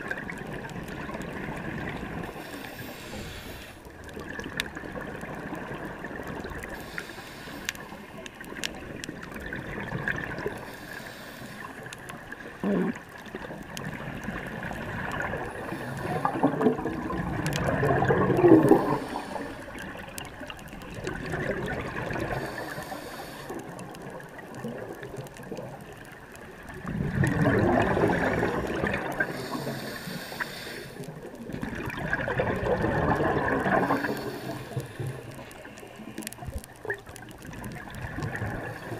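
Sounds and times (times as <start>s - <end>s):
regulator bubbles gurgling: 0.0s - 38.9s.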